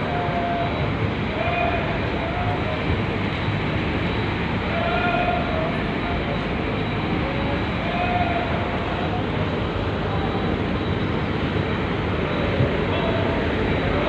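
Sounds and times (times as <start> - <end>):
ferry engine drone: 0.0 - 14.0.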